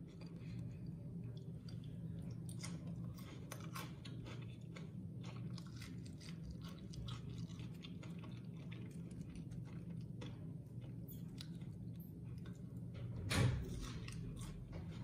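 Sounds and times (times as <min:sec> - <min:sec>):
crunching and chewing fried food: 0:00.0 - 0:13.0, 0:13.6 - 0:15.0
steady low hum: 0:00.0 - 0:15.0.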